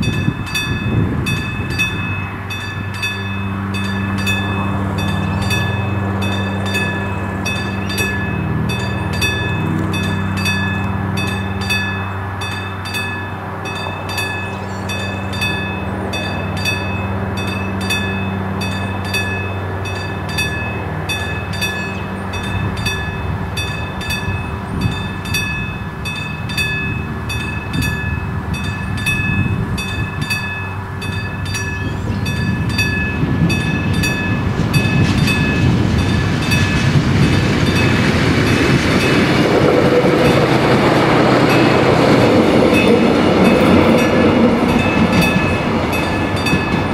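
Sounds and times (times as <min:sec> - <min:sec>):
mechanical warning bell ringing: 0:00.0 - 0:37.0, 0:40.1 - 0:46.9
train running: 0:00.0 - 0:46.9
wheels clacking over rails: 0:00.0 - 0:46.9.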